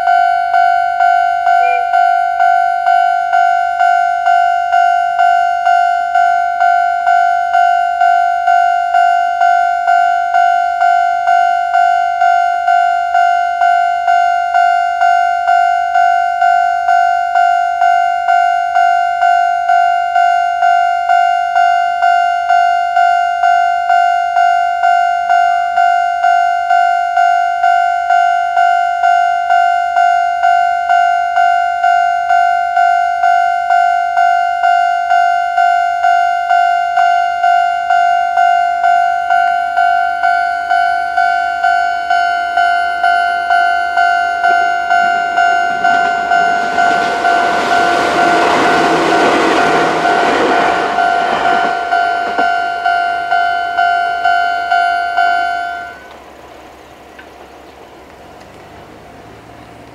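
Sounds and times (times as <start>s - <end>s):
level crossing alarm dinging: 0.0s - 56.1s.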